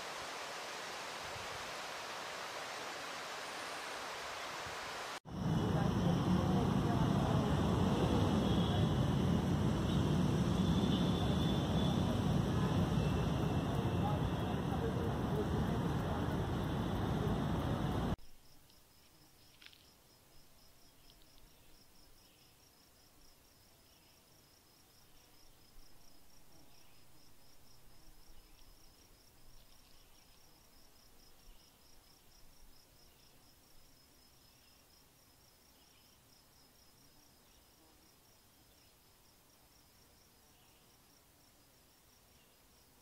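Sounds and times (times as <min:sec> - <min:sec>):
insect chirping: 0:00.0 - 0:43.0
outdoor background noise: 0:00.0 - 0:43.0.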